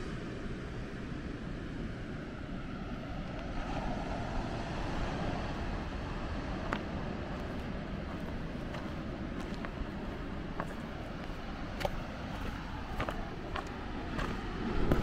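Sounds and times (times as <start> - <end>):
wind buffeting microphone: 2.1 - 15.0.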